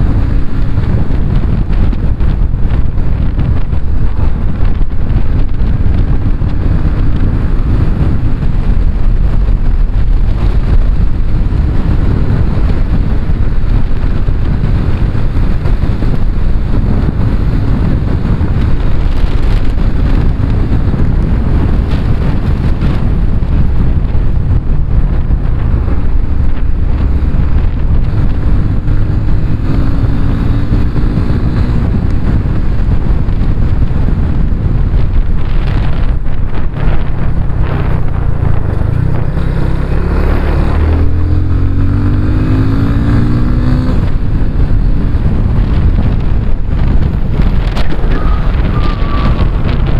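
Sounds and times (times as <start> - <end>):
motorcycle engine running: 0.0 - 49.9
wind buffeting microphone: 0.0 - 49.9.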